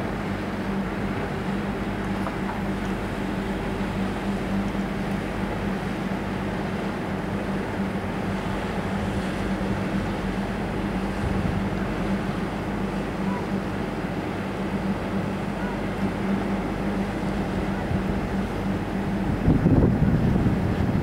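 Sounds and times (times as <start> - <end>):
outboard motor droning: 0.0 - 21.0.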